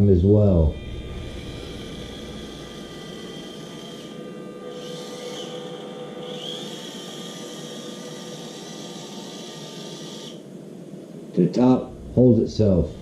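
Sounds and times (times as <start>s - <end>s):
electric motor whining: 0.7s - 10.6s, 11.9s - 13.0s.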